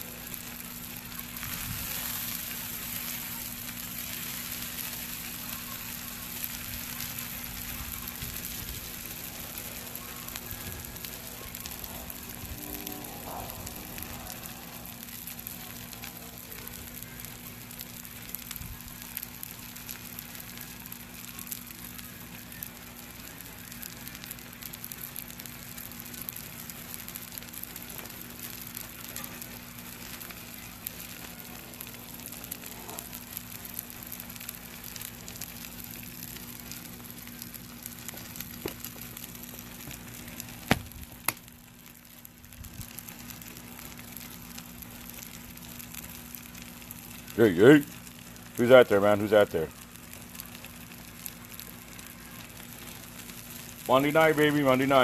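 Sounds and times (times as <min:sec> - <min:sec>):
steaks sizzling on a griddle: 0:00.0 - 0:55.0.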